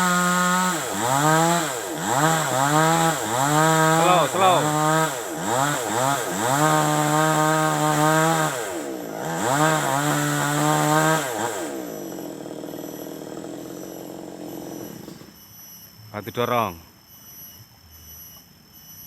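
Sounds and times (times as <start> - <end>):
chainsaw engine revving: 0.0 - 15.4.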